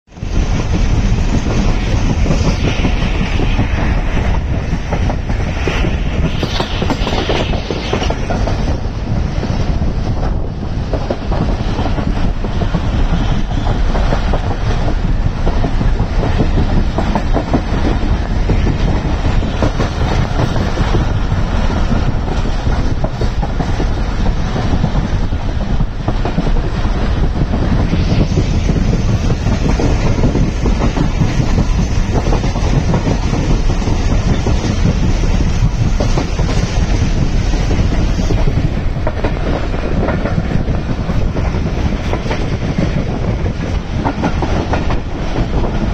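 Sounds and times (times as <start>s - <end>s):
train wheels rumbling on track: 0.1s - 45.9s.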